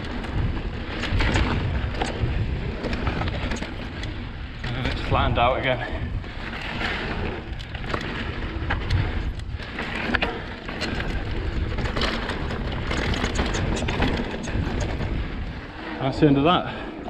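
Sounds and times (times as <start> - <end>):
bike rattling clicks and knocks: 0.0 - 16.8
bike tyres rolling over dirt: 0.0 - 17.0
wind on microphone: 0.0 - 17.0.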